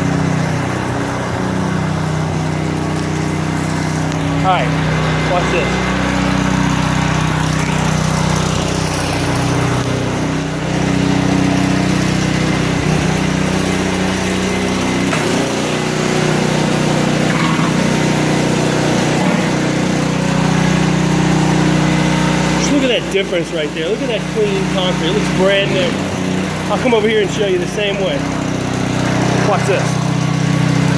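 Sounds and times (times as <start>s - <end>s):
pressure washer engine running: 0.0s - 30.9s
water jet hissing on concrete: 0.0s - 30.9s.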